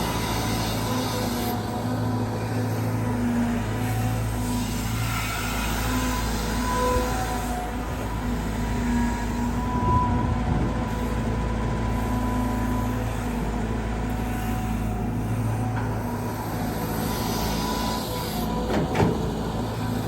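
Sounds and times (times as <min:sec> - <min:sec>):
excavator diesel engine running: 0:00.0 - 0:20.0
hydraulic pump whine: 0:00.0 - 0:20.0.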